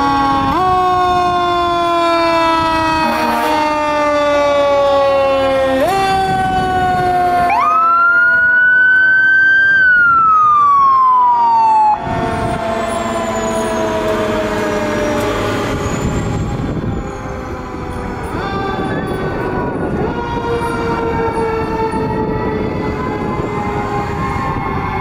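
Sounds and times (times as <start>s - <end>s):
fire truck sirens wailing: 0.0s - 25.0s
rumbling vehicle noise: 0.0s - 25.0s.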